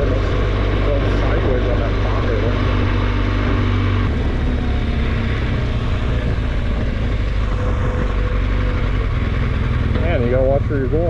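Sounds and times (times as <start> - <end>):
road and wind noise: 0.0 - 11.0
vehicle engine running: 0.0 - 11.0.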